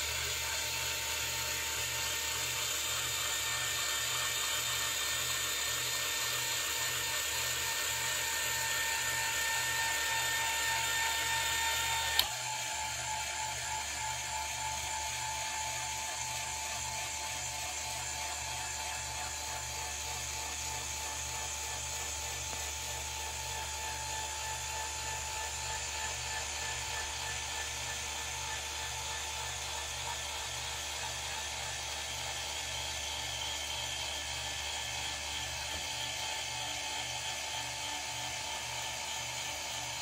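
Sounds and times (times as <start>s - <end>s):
electric motor whining: 7.2s - 39.9s.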